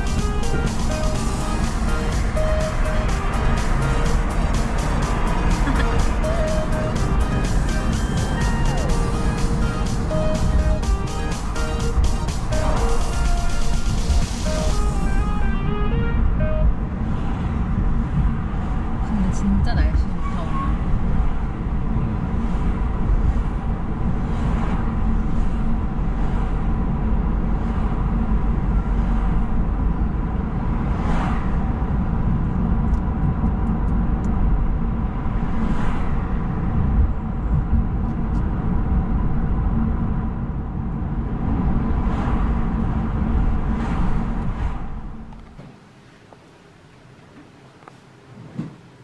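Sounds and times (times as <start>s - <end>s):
car cabin road rumble: 0.0s - 49.0s.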